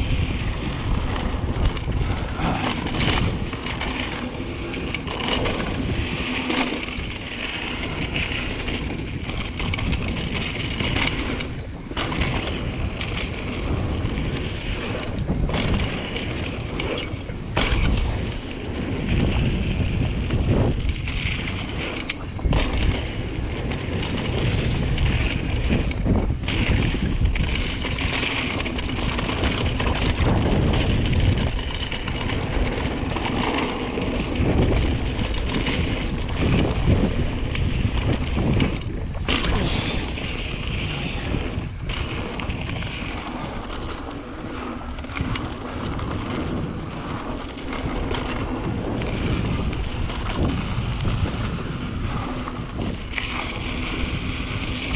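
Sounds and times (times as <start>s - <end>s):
tyres rumbling on dirt: 0.0s - 54.9s
wind buffeting microphone: 0.0s - 54.9s.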